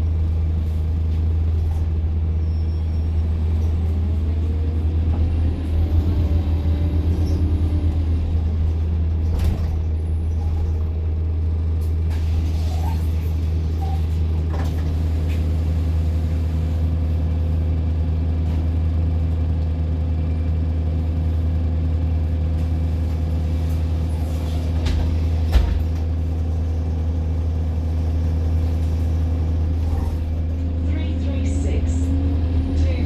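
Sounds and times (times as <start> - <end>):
bus engine humming: 0.0 - 33.0.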